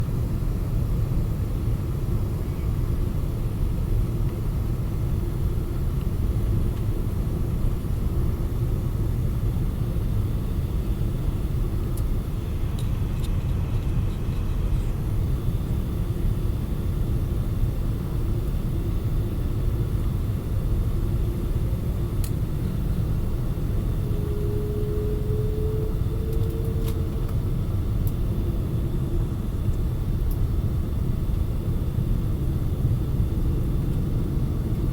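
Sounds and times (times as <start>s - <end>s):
airliner engines and airflow rumble: 0.0s - 34.9s
faint hum: 0.0s - 34.9s.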